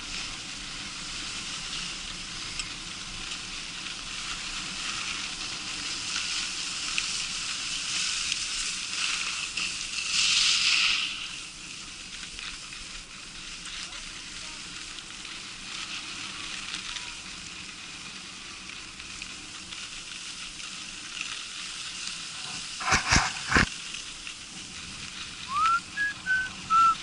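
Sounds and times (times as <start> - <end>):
skis scraping on snow: 0.0 - 27.0.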